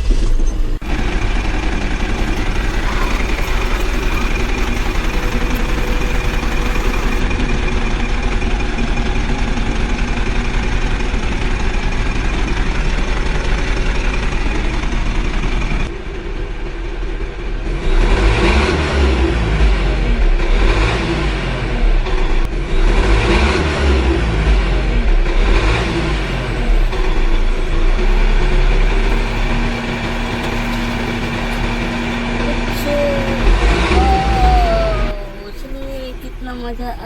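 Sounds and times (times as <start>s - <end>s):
vehicle engine running: 0.0s - 18.4s, 23.9s - 37.0s.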